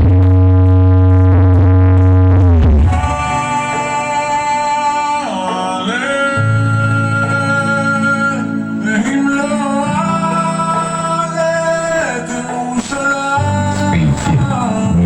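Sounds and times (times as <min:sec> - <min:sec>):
singer with guitar and bass: 0:00.0 - 0:15.0.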